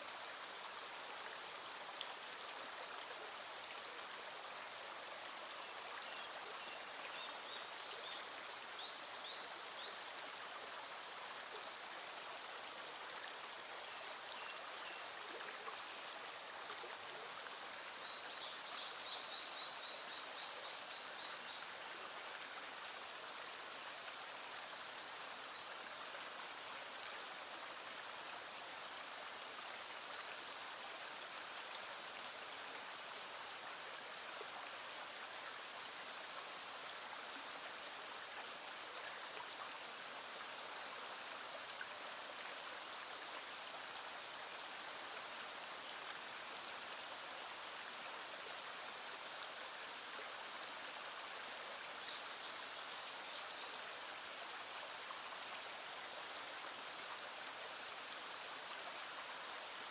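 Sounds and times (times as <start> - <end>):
small stream flowing: 0.0 - 59.9.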